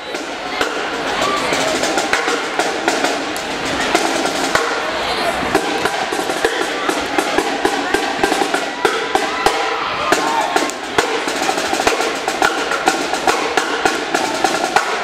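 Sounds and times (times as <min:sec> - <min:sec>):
drum line snare cadence: 0:00.0 - 0:15.0.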